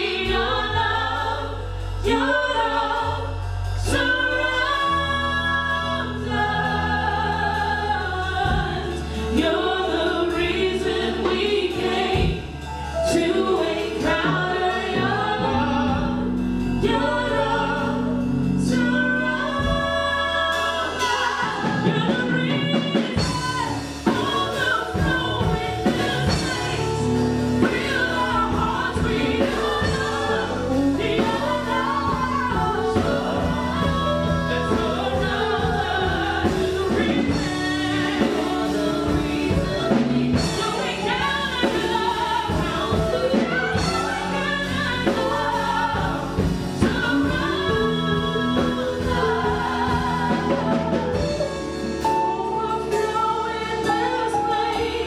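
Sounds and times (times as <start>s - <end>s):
instrumental backing with bass: 0.0s - 55.0s
woman singing: 0.0s - 55.0s.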